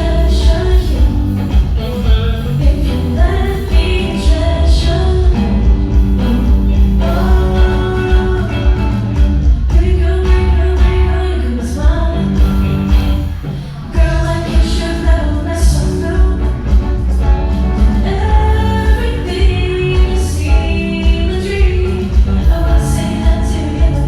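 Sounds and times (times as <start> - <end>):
steady drum beat: 0.0 - 11.2, 11.8 - 24.0
heavy bass: 0.0 - 24.0
live band with singer: 0.0 - 24.0.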